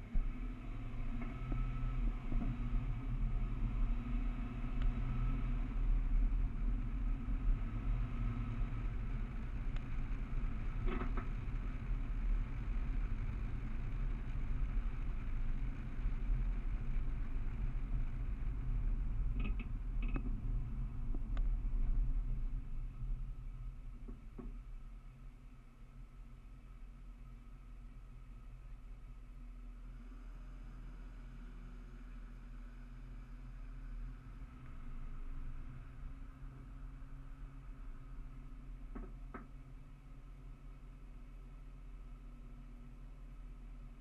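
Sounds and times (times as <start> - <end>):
car driving rumble: 0.0 - 44.0.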